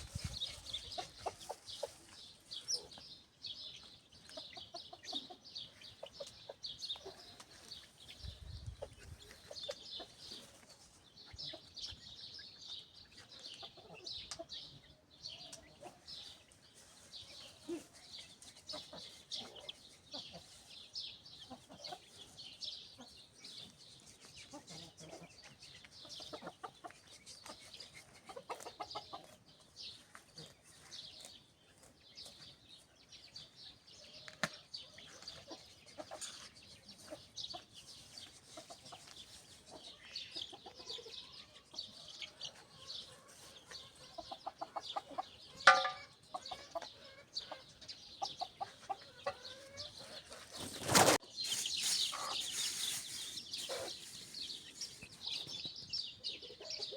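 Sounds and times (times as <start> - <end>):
chickens clucking: 0.0 - 56.9
small birds chirping: 0.0 - 56.9.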